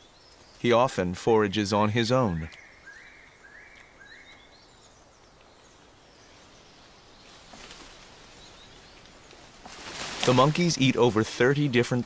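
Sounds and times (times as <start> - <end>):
rustling hiss: 0.0 - 12.0.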